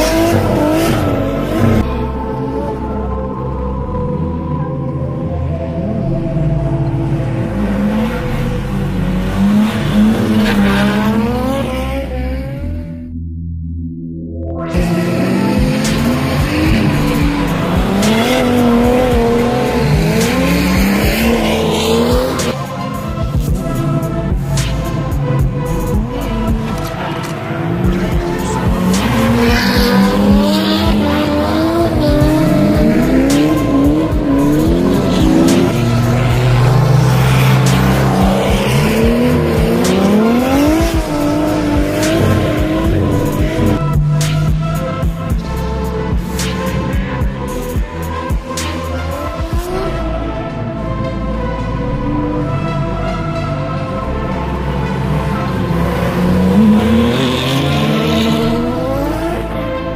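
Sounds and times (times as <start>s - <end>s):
car engine revving hard: 0.0s - 1.8s, 7.6s - 12.8s, 14.7s - 49.9s, 53.4s - 59.8s
music: 0.0s - 59.9s.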